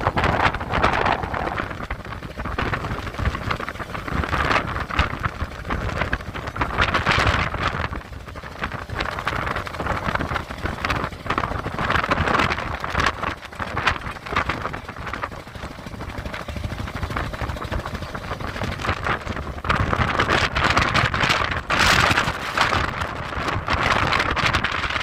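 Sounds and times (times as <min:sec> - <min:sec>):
rough river water: 0:00.0 - 0:25.0
steady low rumble: 0:00.0 - 0:25.0
wind buffeting microphone: 0:00.0 - 0:25.0.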